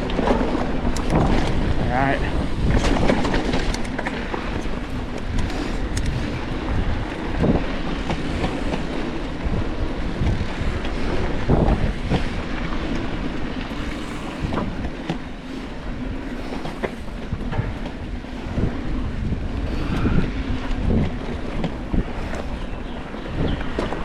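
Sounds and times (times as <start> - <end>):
bike rattling and knocking: 0.0 - 24.0
tyres rumbling on dirt and rocks: 0.0 - 24.0
wind buffeting microphone: 0.0 - 24.0.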